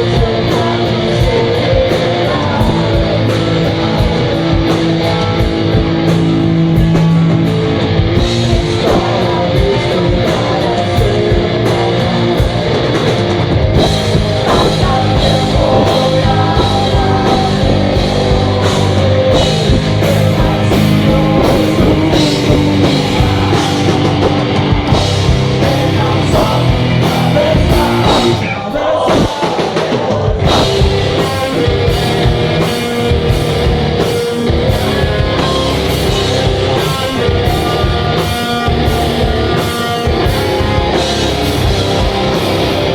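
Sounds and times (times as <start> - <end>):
rock band playing loud: 0.0 - 42.9.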